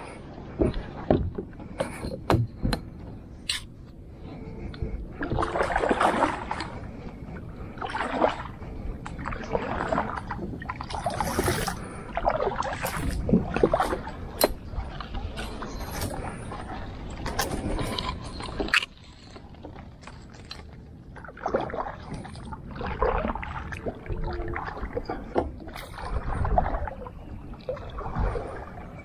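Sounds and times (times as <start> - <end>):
paddle strokes splashing water: 4.3 - 29.0.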